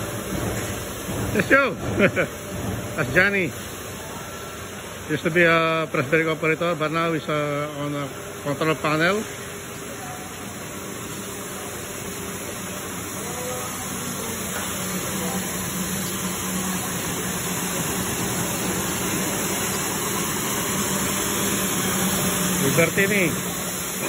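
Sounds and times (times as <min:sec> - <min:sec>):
floor scrubber hissing and humming: 0:00.0 - 0:24.0.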